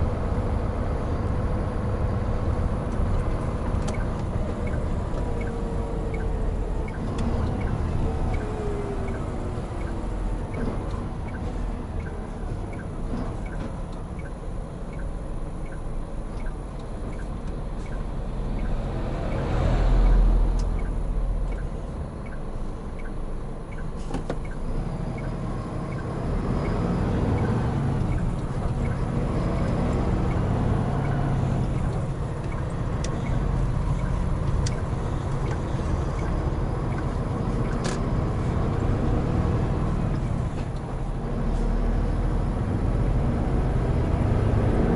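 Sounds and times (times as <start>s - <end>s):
heavy truck engine: 0.0s - 44.9s
road noise: 0.0s - 44.9s.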